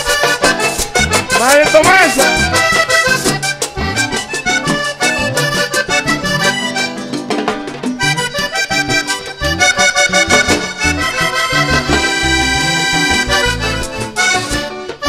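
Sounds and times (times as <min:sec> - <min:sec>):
bass: 0:00.0 - 0:15.0
button accordion melody: 0:00.0 - 0:15.0
percussion: 0:00.0 - 0:15.0.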